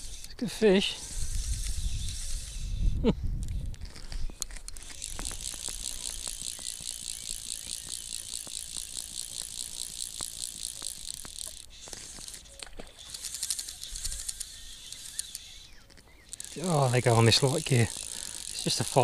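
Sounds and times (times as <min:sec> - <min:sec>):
fly reel ratchet buzzing: 0:00.0 - 0:02.8, 0:03.9 - 0:19.0.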